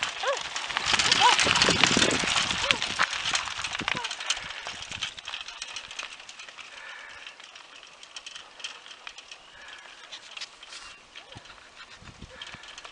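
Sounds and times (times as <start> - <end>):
dog paws on gravel: 0.0 - 12.9
gravel crunching under tyres: 0.0 - 12.9.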